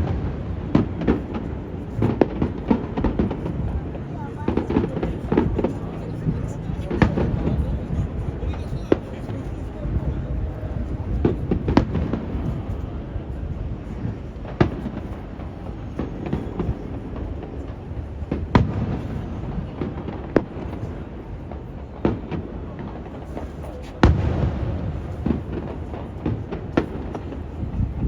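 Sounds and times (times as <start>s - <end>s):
fireworks bangs: 0.0s - 28.0s
wind rumble on microphone: 0.0s - 28.0s.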